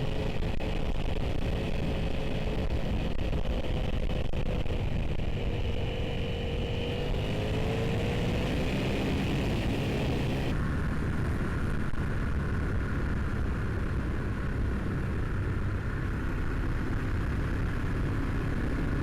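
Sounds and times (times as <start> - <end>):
motorcycle engine running: 0.0 - 19.0
wind noise: 0.0 - 19.0.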